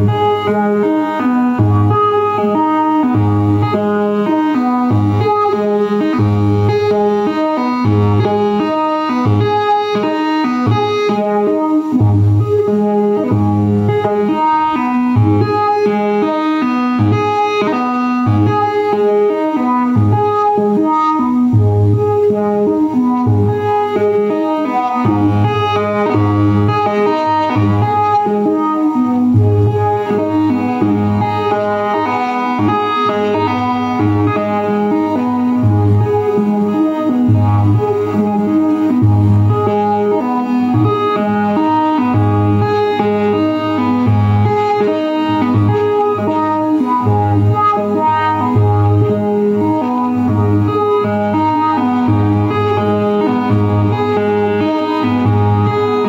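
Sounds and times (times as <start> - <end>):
synthesizer sequenced notes: 0.0 - 56.0.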